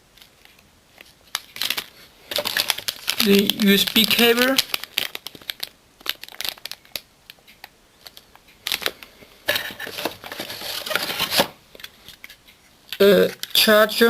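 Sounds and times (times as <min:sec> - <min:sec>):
packaging rustling and crinkling: 0:00.1 - 0:13.6.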